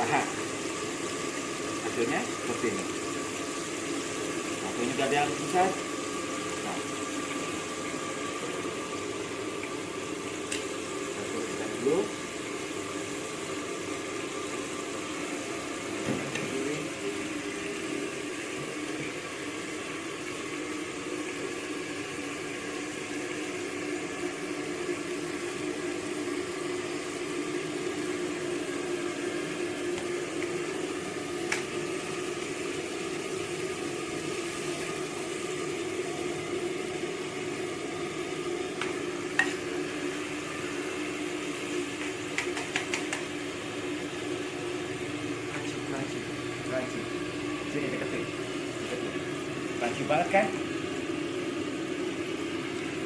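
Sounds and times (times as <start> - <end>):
chicken sizzling in hot oil: 0.0 - 53.0.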